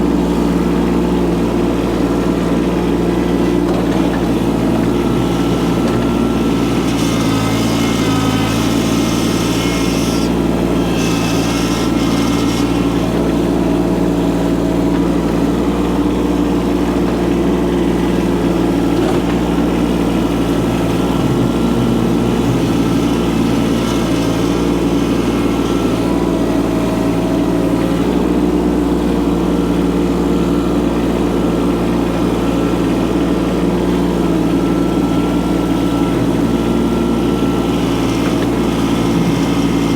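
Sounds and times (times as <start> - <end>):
small excavator engine running: 0.0 - 39.9.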